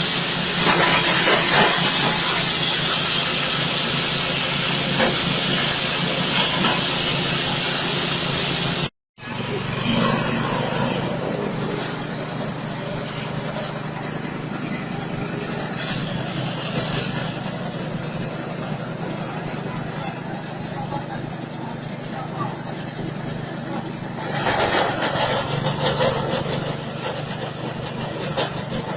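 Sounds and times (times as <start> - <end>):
spinning cutter hissing: 0.0 - 28.9
straw chopper engine humming: 0.0 - 28.9.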